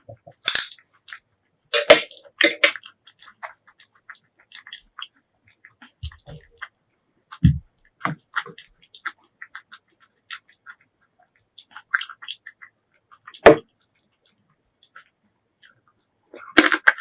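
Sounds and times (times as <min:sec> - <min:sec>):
wet chewing and mouth smacks: 0:00.2 - 0:17.0.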